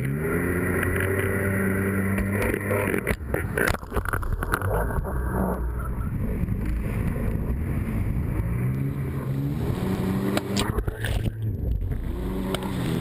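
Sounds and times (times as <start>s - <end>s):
jet ski engine running: 0.0s - 13.0s
wind: 0.0s - 13.0s.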